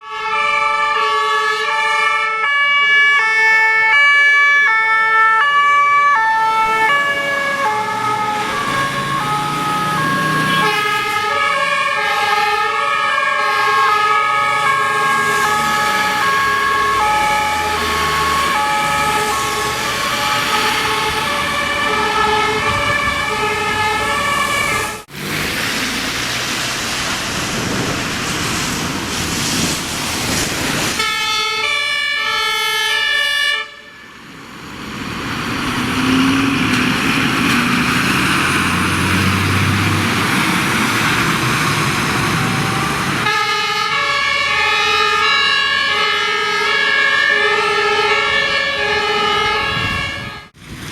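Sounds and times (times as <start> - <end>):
rushing vehicle and road noise: 0.0 - 50.9
two-tone fire engine sirens: 0.0 - 50.9.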